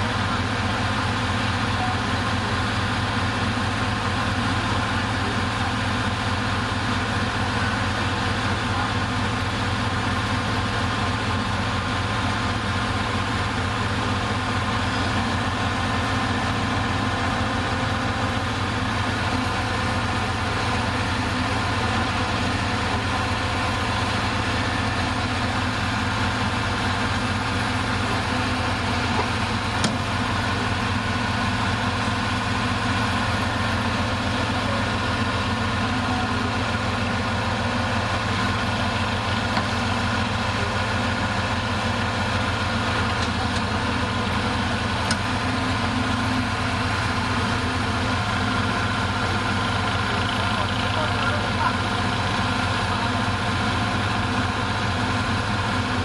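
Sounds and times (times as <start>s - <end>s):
bulldozer diesel engine idling: 0.0s - 56.0s.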